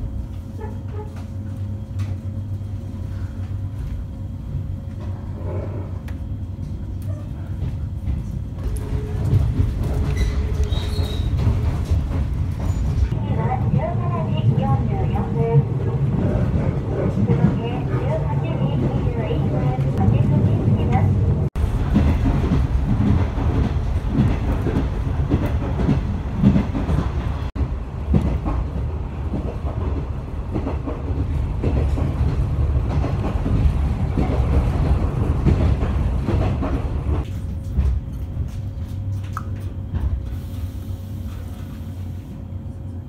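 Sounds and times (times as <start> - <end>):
train running low rumble: 0.0 - 43.0.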